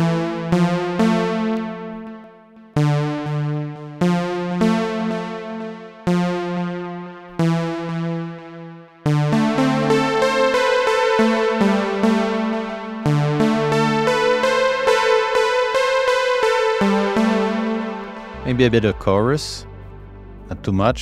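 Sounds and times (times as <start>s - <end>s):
synth repeated notes: 0.0s - 20.9s
synth chords: 0.0s - 21.0s.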